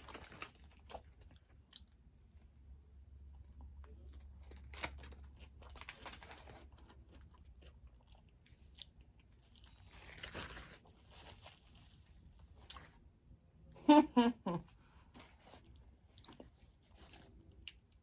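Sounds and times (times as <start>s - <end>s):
chewing and crunching food: 0.0s - 2.5s, 3.3s - 13.0s, 14.6s - 18.0s.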